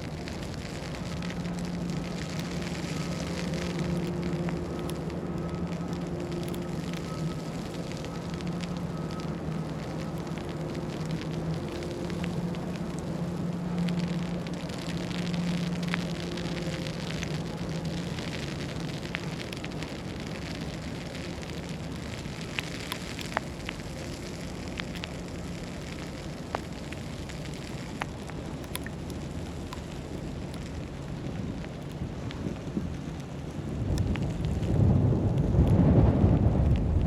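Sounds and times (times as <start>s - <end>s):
low steady hum: 0.0s - 37.0s
small crackles and ticks: 0.0s - 37.0s
steady hiss: 0.0s - 37.0s.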